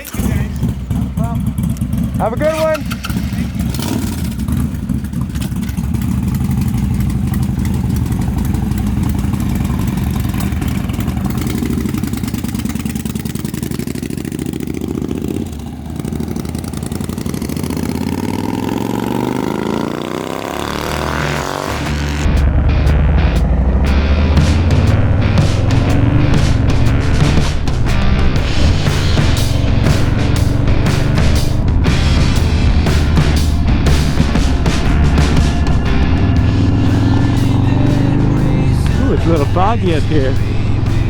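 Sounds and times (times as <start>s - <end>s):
motorcycle engines idling: 0.0s - 41.0s
motorcycle revving and accelerating: 0.0s - 41.0s.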